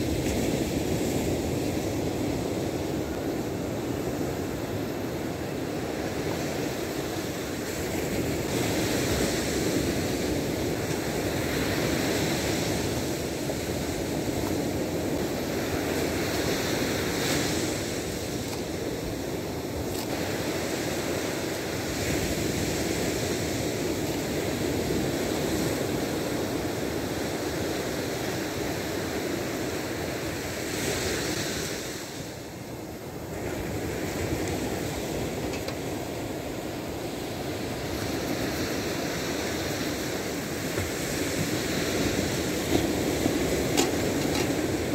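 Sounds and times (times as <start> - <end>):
ocean surf breaking on sand: 0.0 - 44.9.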